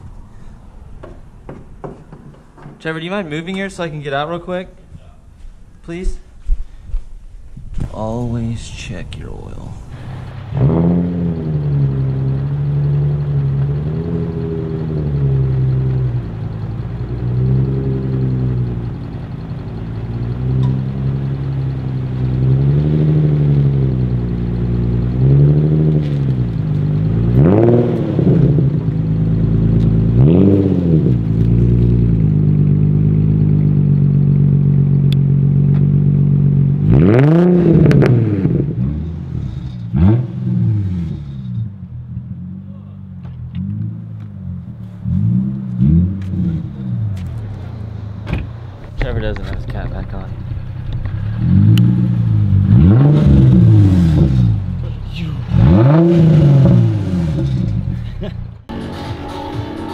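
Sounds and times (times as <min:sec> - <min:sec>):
car engine revving: 0:08.0 - 0:59.9.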